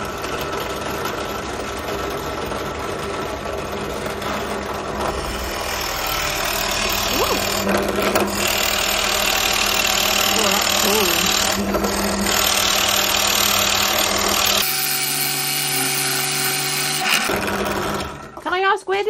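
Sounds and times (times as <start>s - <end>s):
pillar drill boring into wood: 0.0s - 18.5s.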